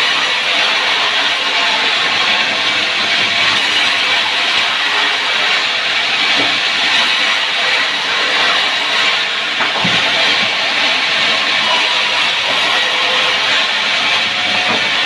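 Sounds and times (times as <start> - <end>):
wood saw running: 0.0 - 15.0.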